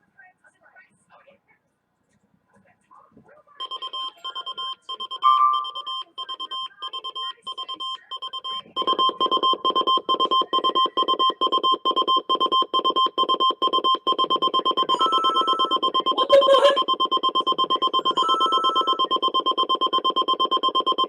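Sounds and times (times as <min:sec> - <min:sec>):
rapid electronic alert beeping: 0:03.6 - 0:21.0.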